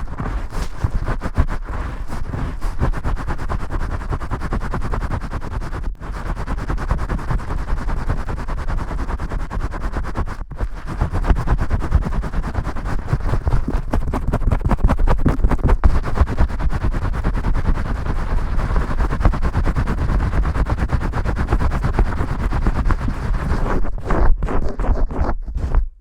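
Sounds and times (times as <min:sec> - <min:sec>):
scrubbing lathered hair: 0:00.0 - 0:23.9.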